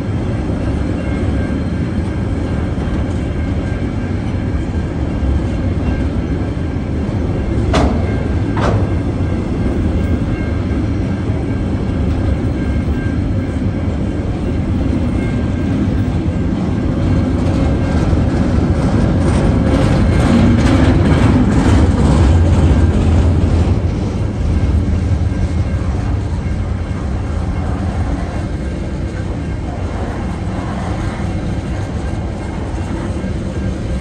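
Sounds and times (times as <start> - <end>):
freight train rumbling past: 0.0 - 34.0.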